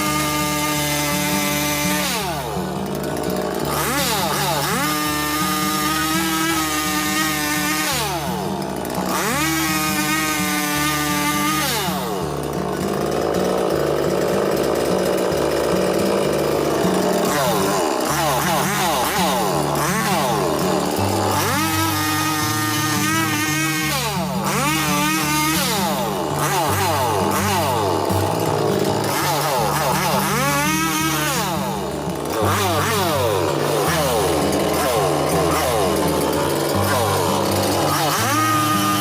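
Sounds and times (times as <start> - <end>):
chainsaw revving: 0.0 - 39.0.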